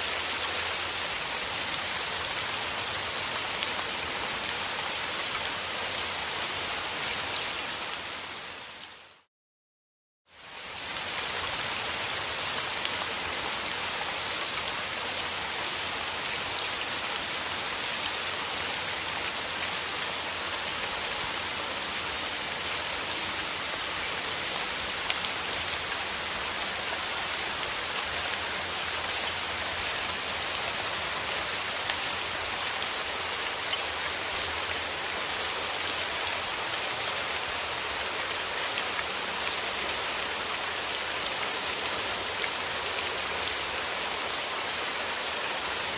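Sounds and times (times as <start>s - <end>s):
steady rain: 0.0s - 9.3s, 10.3s - 45.9s.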